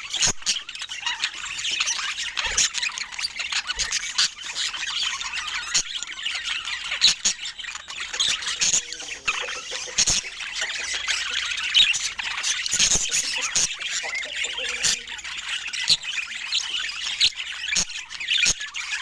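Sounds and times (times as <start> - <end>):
budgerigars chattering and chirping: 0.0 - 19.0.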